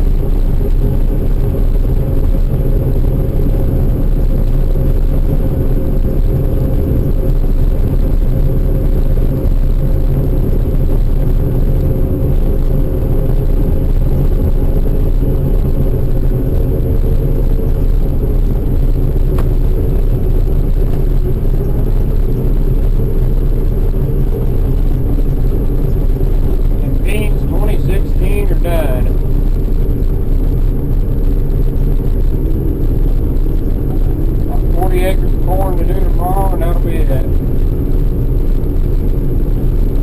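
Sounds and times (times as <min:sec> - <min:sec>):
farm machine engine drone: 0:00.0 - 0:40.0.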